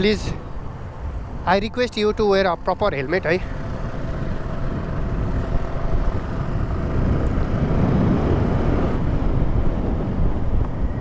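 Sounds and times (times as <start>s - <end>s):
motorcycle engine running: 0.0s - 11.0s
road noise: 0.0s - 11.0s
wind noise on microphone: 0.0s - 11.0s.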